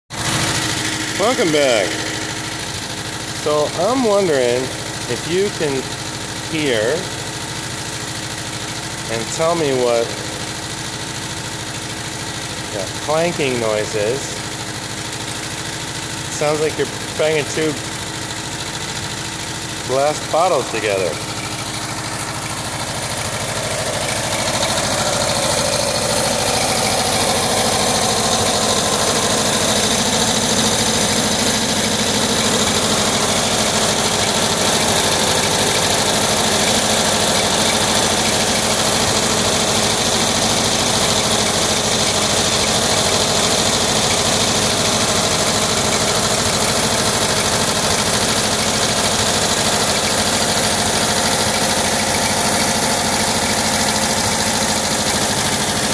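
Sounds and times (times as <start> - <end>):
air-cooled engine idling: 0.1 - 55.9.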